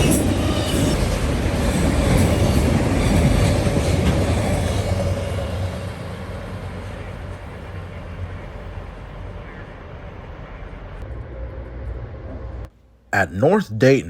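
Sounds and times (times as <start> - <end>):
freight train rolling past: 0.0 - 12.7.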